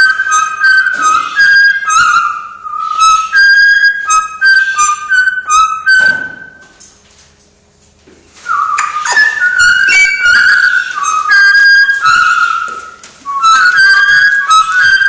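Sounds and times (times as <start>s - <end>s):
parrot whistling: 0.0s - 6.6s, 8.5s - 15.0s.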